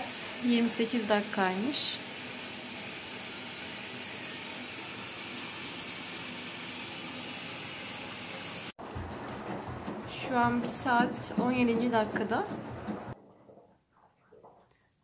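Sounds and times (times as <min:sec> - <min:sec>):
water rushing into washing machine: 0:00.0 - 0:15.0.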